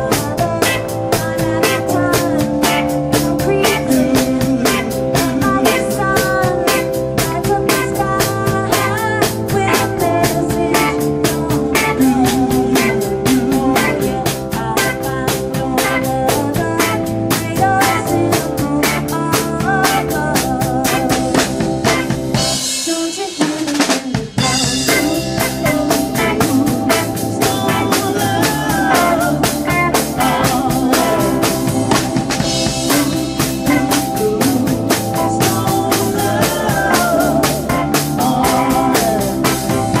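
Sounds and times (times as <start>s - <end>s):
wavering lead line: 0.0s - 22.7s, 24.4s - 40.0s
bass guitar: 0.0s - 23.0s, 23.8s - 40.0s
drum kit fast beat: 0.0s - 40.0s
electric guitar: 0.0s - 40.0s.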